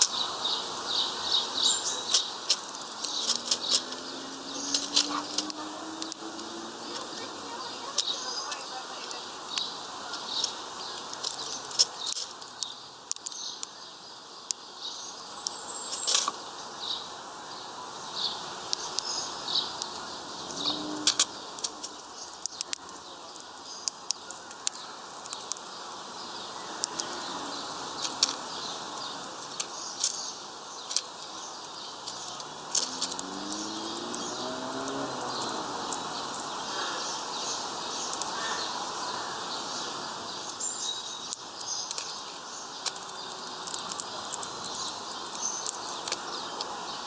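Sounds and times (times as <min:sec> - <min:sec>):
bird pecking and cracking seeds: 0:01.6 - 0:13.8, 0:15.4 - 0:16.4, 0:18.7 - 0:25.8, 0:26.6 - 0:37.0, 0:38.0 - 0:38.6, 0:40.4 - 0:46.8.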